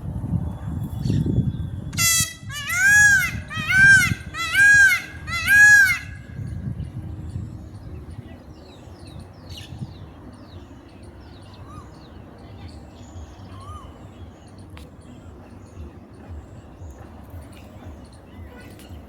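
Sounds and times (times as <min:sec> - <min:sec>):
small birds chirping: 0:02.8 - 0:19.0.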